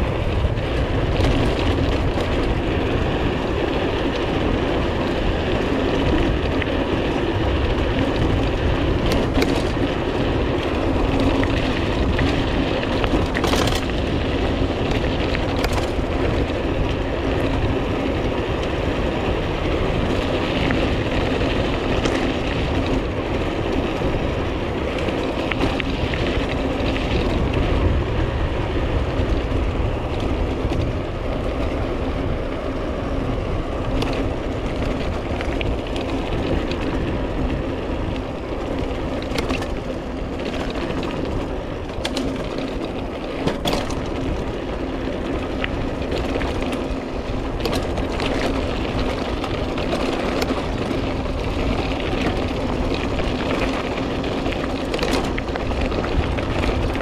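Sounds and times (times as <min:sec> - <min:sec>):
bicycle tyre and frame rattle: 0:00.0 - 0:57.0
wind rumble on microphone: 0:00.0 - 0:57.0.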